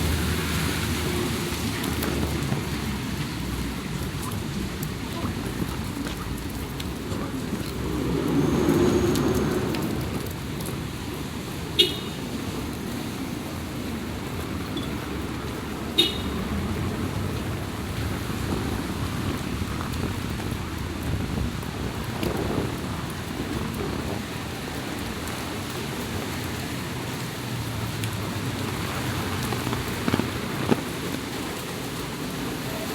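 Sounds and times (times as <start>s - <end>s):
vehicle passing: 0.0s - 25.4s, 26.1s - 32.9s
rain and road noise: 0.0s - 32.9s.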